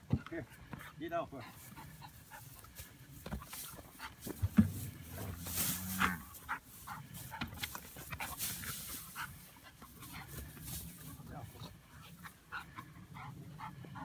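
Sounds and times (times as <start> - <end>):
dog panting: 0.0 - 4.4, 6.2 - 14.0
rustling through hay: 1.5 - 13.8.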